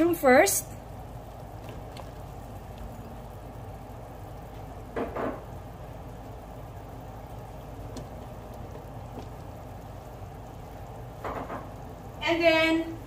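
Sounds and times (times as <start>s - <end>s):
broth simmering and bubbling: 0.0s - 13.0s.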